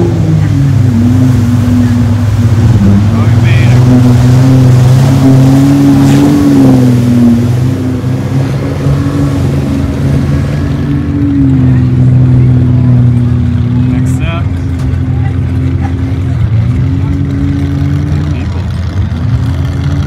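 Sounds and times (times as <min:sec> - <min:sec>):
suv engine revving: 0:00.0 - 0:20.0
wheels churning mud and water: 0:00.0 - 0:20.0.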